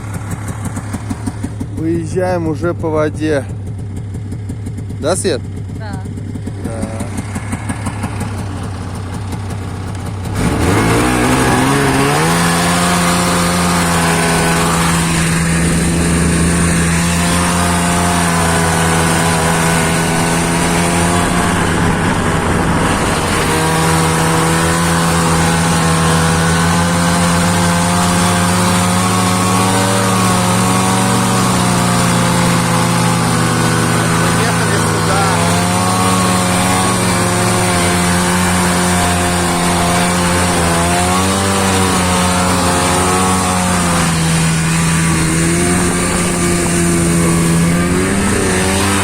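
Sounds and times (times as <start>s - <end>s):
snowmobile engine revving: 0.0s - 49.0s.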